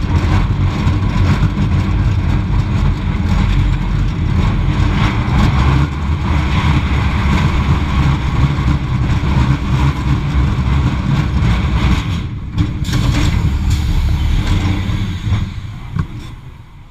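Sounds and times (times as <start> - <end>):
roller coaster wheels rumbling on rail: 0.0 - 16.9.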